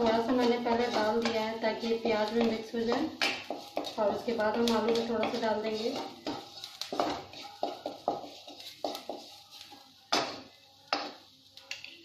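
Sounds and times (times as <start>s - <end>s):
wooden spatula scraping a pan: 0.0s - 11.8s.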